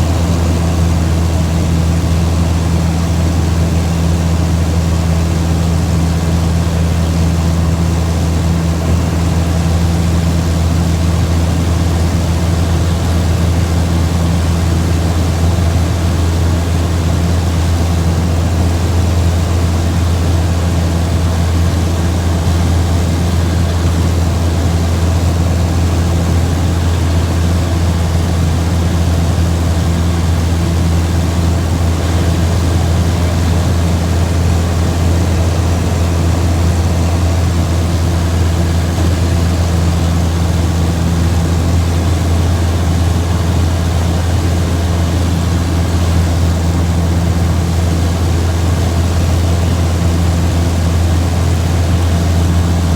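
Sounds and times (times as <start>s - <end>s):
low engine drone: 0.0s - 52.9s.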